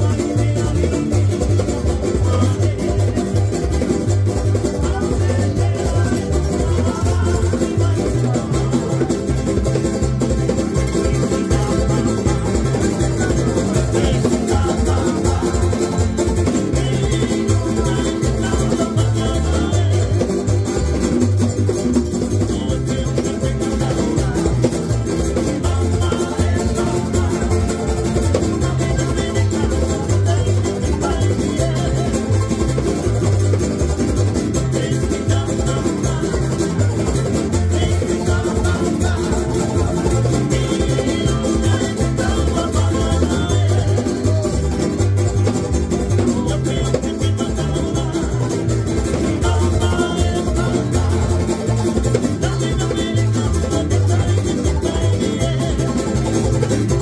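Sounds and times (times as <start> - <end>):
acoustic guitar strummed: 0.0 - 57.0
electric guitar: 0.0 - 57.0
rhythmic low end: 0.0 - 57.0
ukuleles strummed: 0.0 - 57.0.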